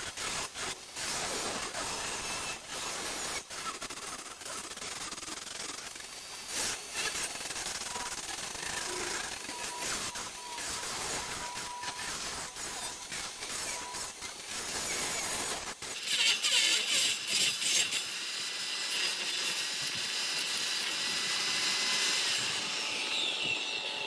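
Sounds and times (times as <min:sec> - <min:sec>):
power tool working wood: 0:00.0 - 0:24.0.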